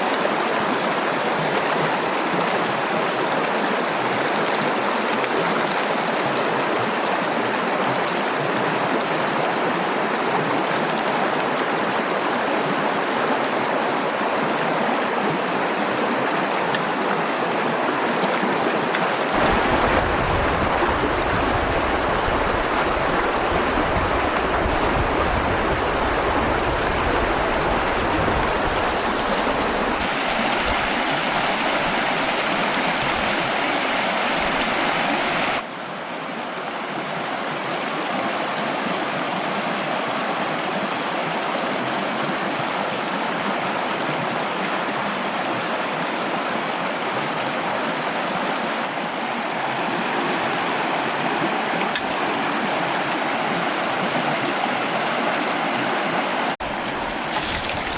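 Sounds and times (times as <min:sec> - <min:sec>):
stream rushing over rocks: 0:00.0 - 0:57.9.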